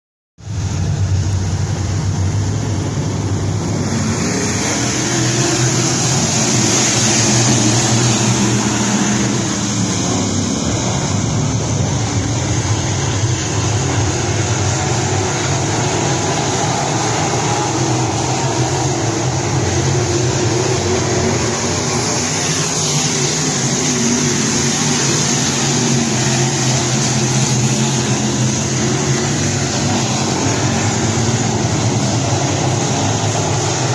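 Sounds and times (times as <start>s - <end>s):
race car engines droning: 0.4s - 33.9s.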